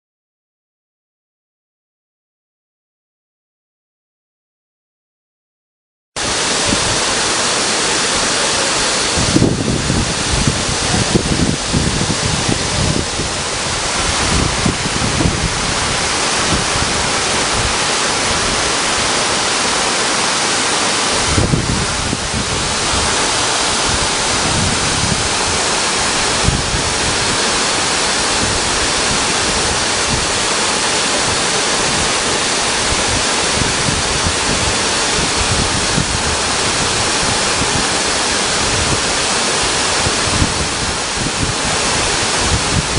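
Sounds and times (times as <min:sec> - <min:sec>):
low microphone rumbles: 0:06.2 - 0:20.2, 0:20.9 - 0:42.9
waterfall rushing: 0:06.2 - 0:42.9.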